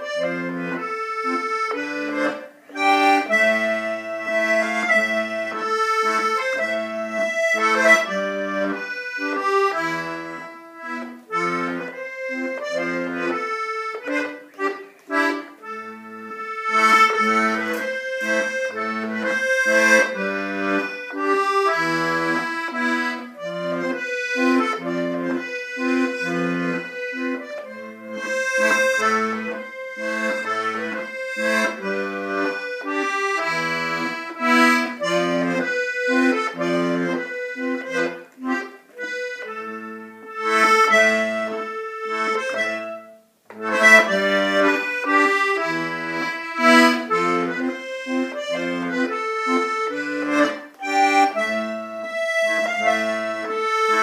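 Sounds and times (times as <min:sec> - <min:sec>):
button accordion playing: 0:00.0 - 0:54.0.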